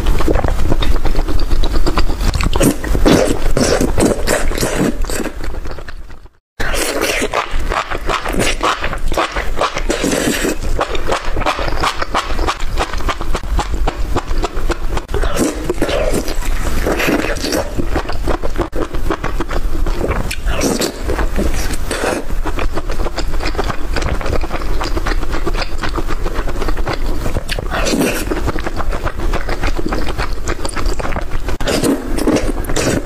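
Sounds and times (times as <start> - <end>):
eating crunching: 0.0 - 33.0.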